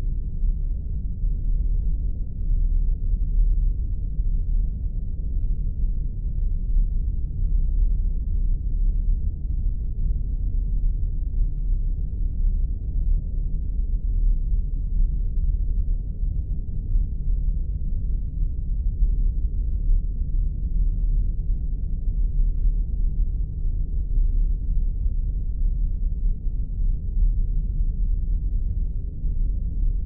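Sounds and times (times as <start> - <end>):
deep rumbling drone: 0.0 - 30.0.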